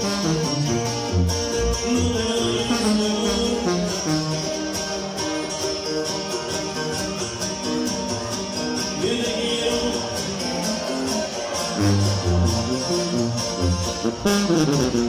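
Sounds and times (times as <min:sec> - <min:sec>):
tuba bass notes: 0:00.0 - 0:06.5, 0:09.3 - 0:15.0
live band music: 0:00.0 - 0:15.0.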